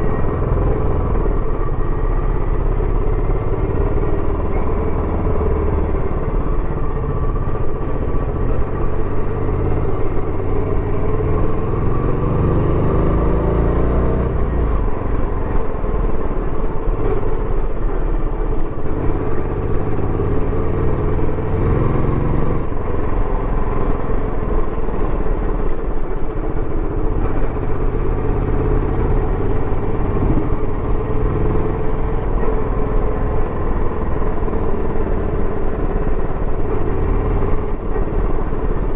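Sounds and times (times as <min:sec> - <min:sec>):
motorcycle engine accelerating: 0:00.0 - 0:17.4, 0:18.4 - 0:38.9.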